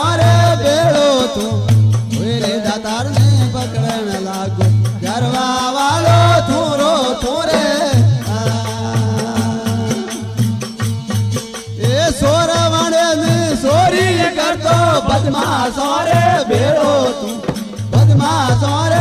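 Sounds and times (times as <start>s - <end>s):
drum beat: 0.0s - 19.0s.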